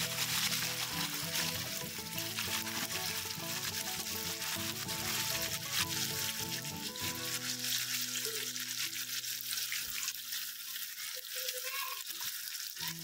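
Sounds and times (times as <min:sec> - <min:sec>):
chips sizzling in hot oil: 0:00.0 - 0:13.0.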